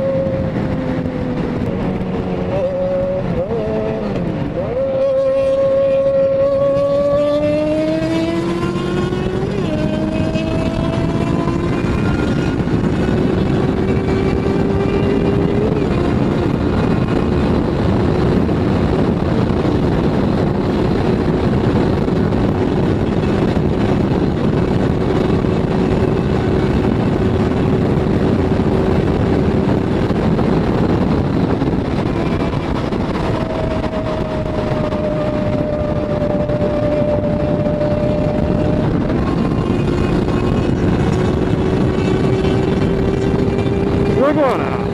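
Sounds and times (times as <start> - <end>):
motorcycle engine cruising: 0.0 - 44.9
wind rush: 0.0 - 44.9.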